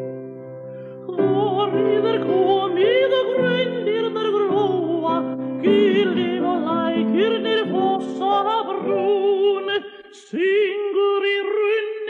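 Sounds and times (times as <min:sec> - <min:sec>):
operatic singing with vibrato: 0:01.1 - 0:12.0.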